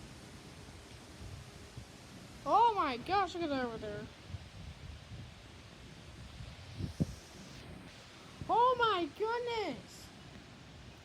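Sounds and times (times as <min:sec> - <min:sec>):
wind rumbling on microphone: 0:00.0 - 0:11.0
wind rustling through trees: 0:00.0 - 0:11.0.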